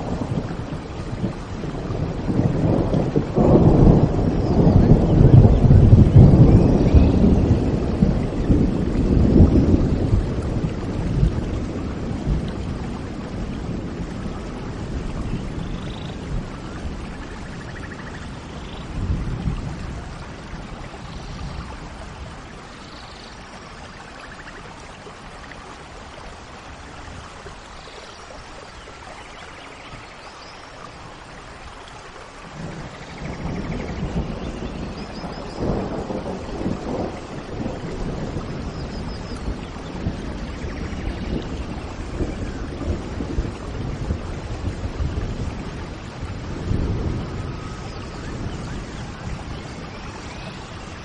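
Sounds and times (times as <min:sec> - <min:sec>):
thunder rumbling: 0:00.0 - 0:27.6, 0:31.0 - 0:51.0
steady rain: 0:00.0 - 0:51.0.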